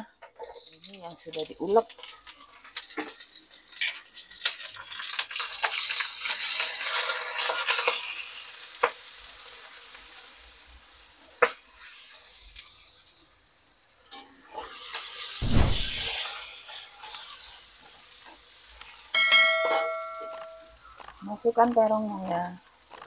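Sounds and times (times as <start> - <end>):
vegetables sizzling in hot oil: 0.0 - 19.3.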